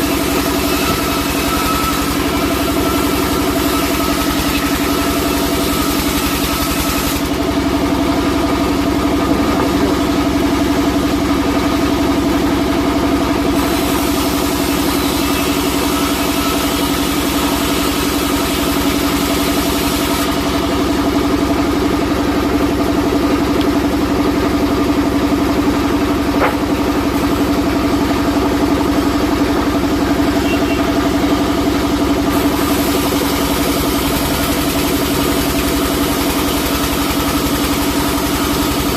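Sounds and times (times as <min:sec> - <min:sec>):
sawmill machine humming: 0:00.0 - 0:38.9.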